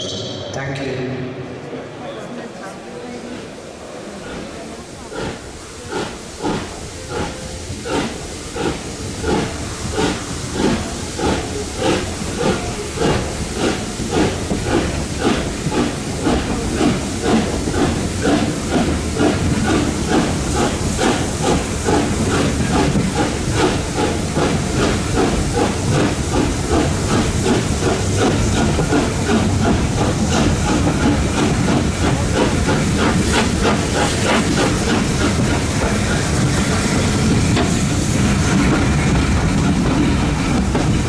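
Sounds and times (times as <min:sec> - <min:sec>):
steam locomotive chuffing: 0:02.3 - 0:41.0.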